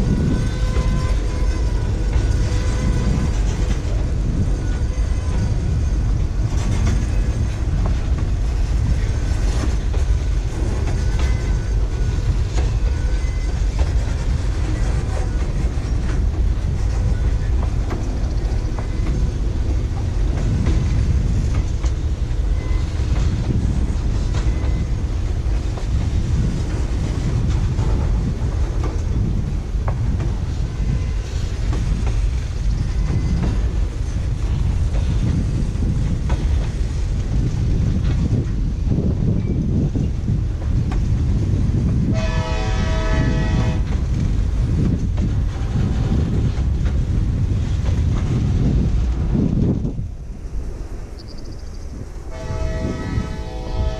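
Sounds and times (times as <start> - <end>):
wheels clacking over rail joints: 0.0 - 50.0
train cars rumbling: 0.0 - 53.9.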